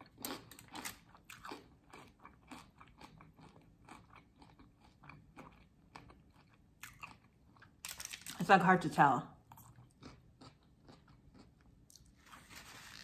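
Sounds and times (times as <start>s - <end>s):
crunching and chewing tortilla chips: 0.0s - 8.6s, 9.5s - 13.0s.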